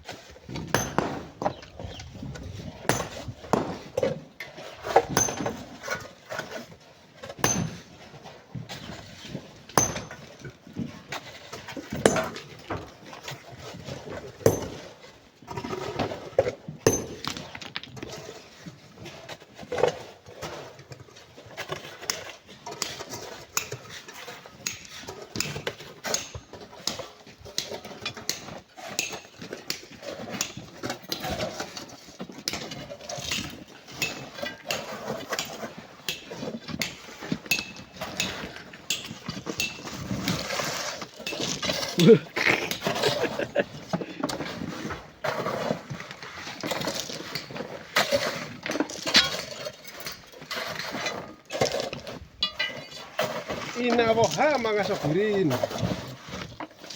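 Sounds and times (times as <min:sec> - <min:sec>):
hand tools digging into sand and stone: 0:00.0 - 0:56.9.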